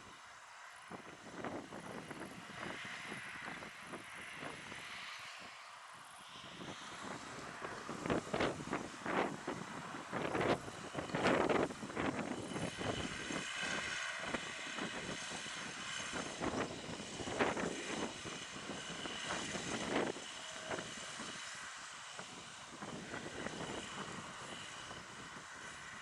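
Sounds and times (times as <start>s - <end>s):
steady whine: 0.0s - 26.0s.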